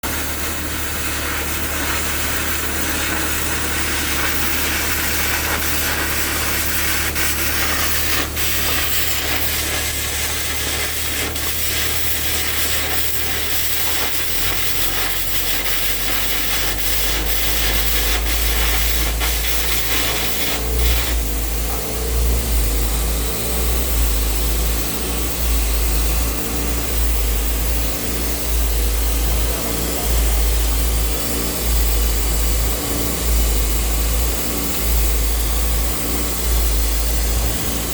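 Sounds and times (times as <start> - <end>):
arc gouging hissing crackle: 0.1 - 37.9.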